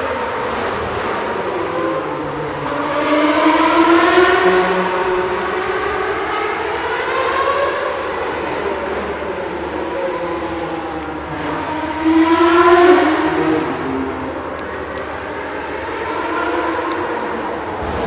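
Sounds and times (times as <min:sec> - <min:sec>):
racing car engines at high revs: 0:00.0 - 0:18.0.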